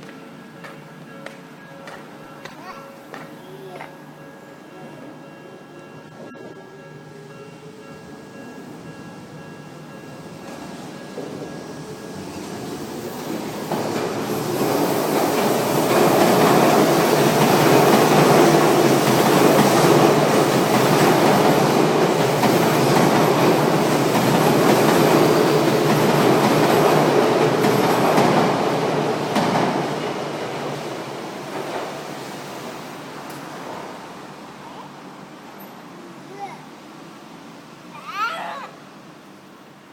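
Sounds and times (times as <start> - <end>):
train wheels clattering on rails: 0.0 - 34.2.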